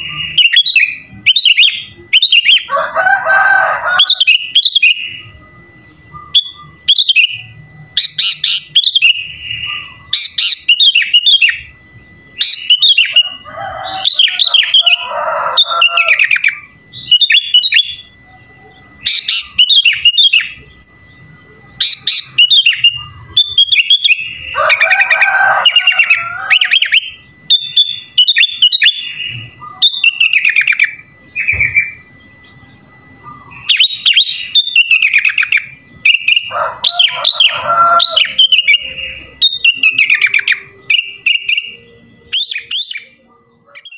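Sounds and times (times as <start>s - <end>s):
bulbul singing: 0.0s - 43.9s.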